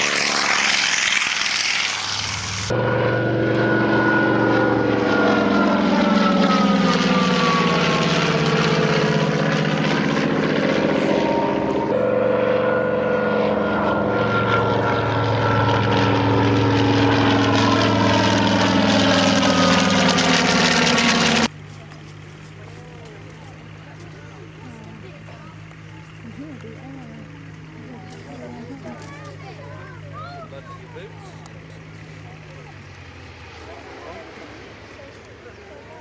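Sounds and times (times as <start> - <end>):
propeller aircraft flying past: 0.0 - 36.0.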